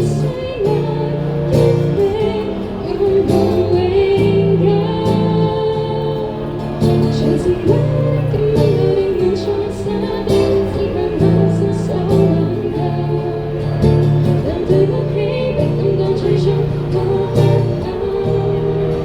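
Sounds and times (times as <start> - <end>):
guitar: 0.0 - 19.0
person singing: 0.0 - 19.0
sustained bass line: 0.0 - 19.0.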